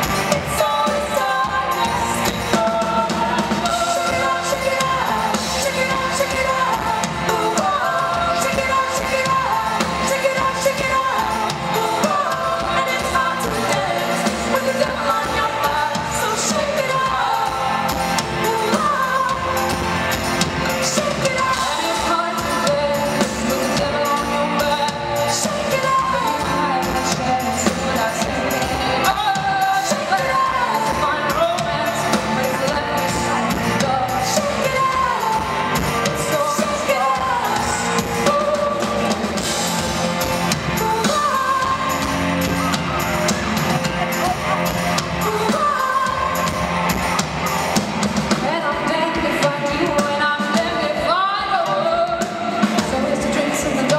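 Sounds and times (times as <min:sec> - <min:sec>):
live rock band playing: 0:00.0 - 0:53.9
woman singing lead: 0:00.0 - 0:53.9.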